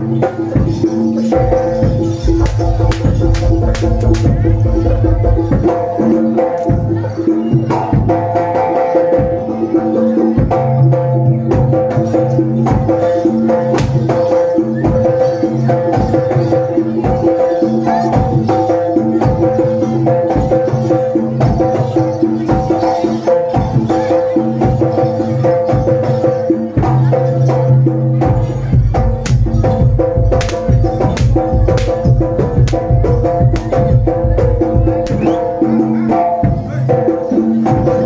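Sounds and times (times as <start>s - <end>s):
rapid percussion strikes: 0.0s - 38.0s.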